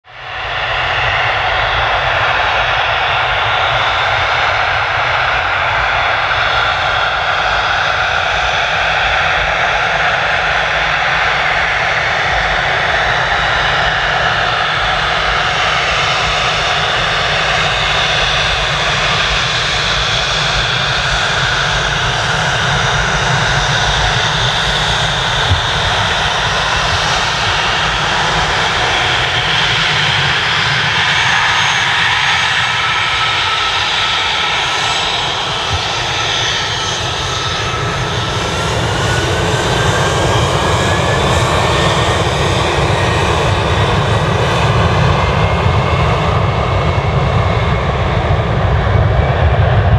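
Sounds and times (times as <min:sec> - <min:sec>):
jet engines running: 0:00.1 - 0:49.9.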